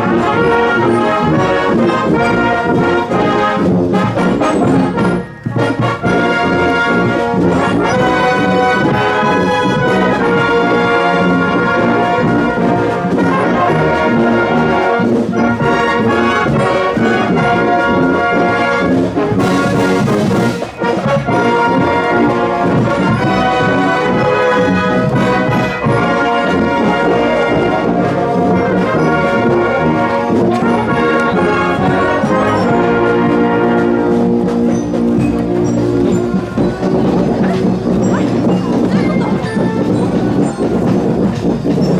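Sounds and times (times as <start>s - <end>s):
marching brass band playing: 0.0s - 41.9s.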